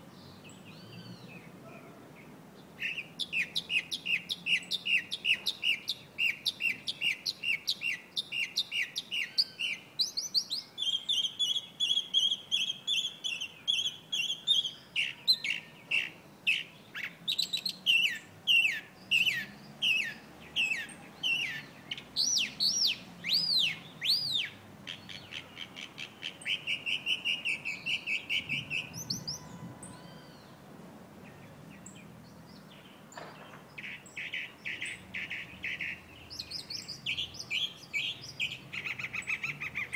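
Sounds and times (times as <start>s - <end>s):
mockingbird singing: 0.2s - 30.6s, 31.2s - 39.9s.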